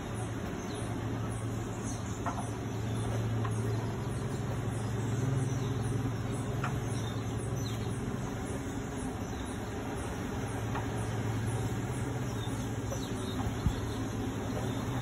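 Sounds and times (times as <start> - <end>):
funicular drive humming: 0.0 - 15.0.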